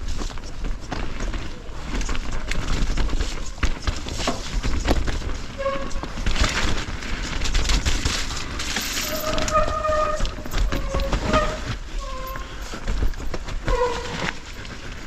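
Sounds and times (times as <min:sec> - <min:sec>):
bike chain and frame rattling: 0:00.0 - 0:15.0
wind and jolting rumble: 0:00.0 - 0:15.0.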